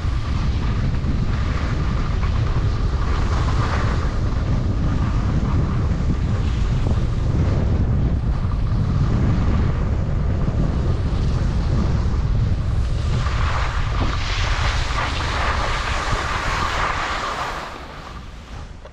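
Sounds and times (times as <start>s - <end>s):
skis sliding on snow: 0.0s - 18.9s
wind buffeting microphone: 0.0s - 18.9s.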